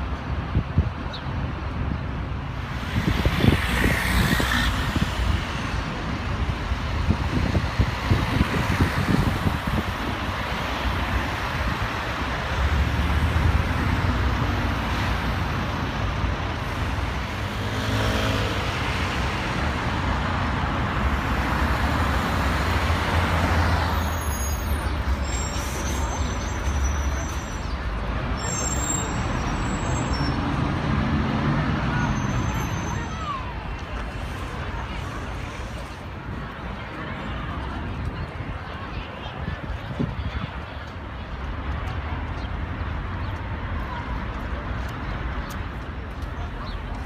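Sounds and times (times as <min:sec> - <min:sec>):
hum of traffic: 0:00.0 - 0:47.0
vehicles passing: 0:00.0 - 0:47.0.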